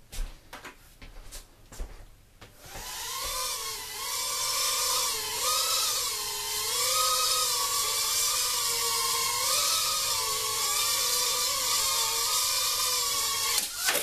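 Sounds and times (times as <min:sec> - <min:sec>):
quadcopter motors buzzing whine: 0:02.6 - 0:14.0.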